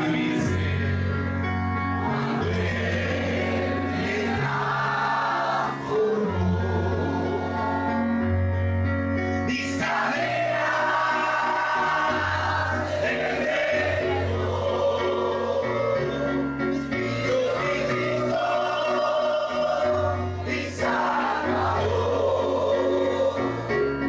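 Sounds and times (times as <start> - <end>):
crowd singing together: 0.0 - 8.3, 9.4 - 24.0.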